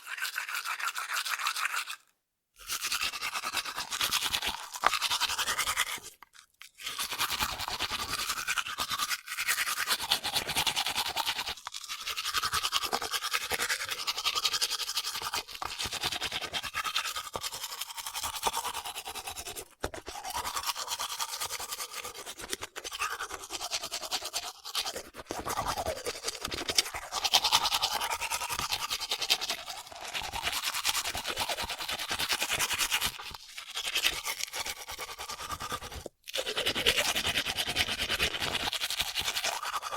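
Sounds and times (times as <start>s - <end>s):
toothbrush scrubbing teeth: 0.0s - 39.9s.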